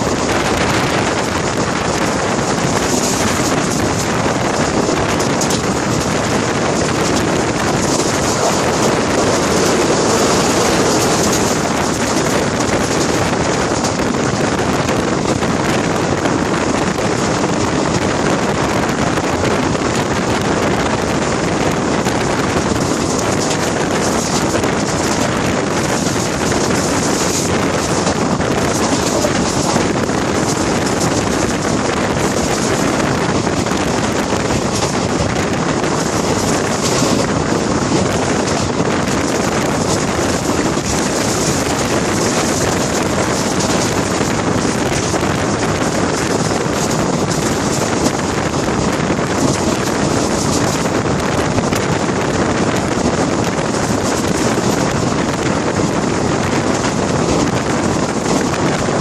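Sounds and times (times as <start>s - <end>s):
train running noise: 0.0s - 59.0s
wind buffeting microphone: 0.0s - 59.0s.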